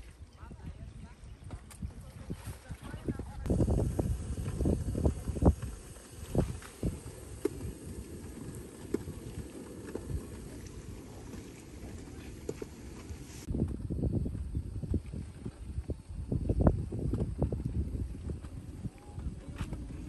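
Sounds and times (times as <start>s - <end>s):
strong wind buffeting microphone: 0.4s - 20.0s.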